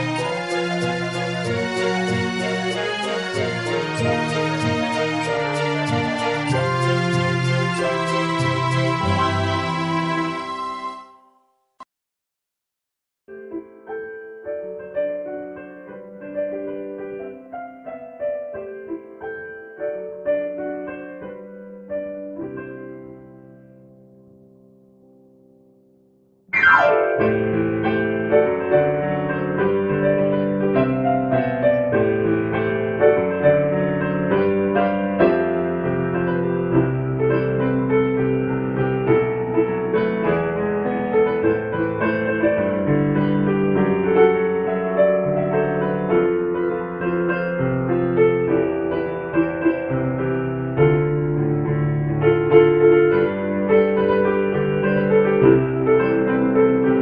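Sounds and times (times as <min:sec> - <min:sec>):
piano music: 0:00.0 - 0:11.5, 0:13.3 - 0:25.9, 0:26.5 - 0:57.0.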